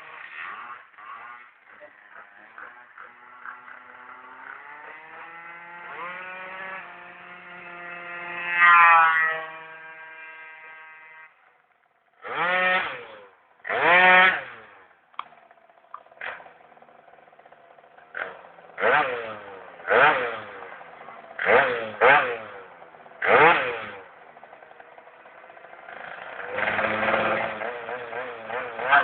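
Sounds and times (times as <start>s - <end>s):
scooter engine revving: 0.0s - 29.0s.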